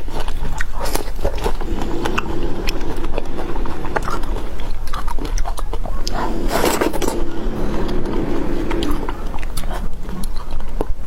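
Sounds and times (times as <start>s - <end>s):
chewing strawberry: 0.0s - 11.0s.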